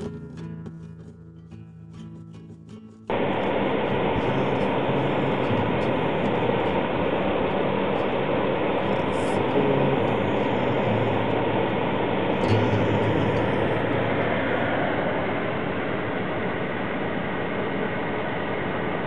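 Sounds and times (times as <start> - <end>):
moving vehicle rumble and hiss: 3.1 - 19.0.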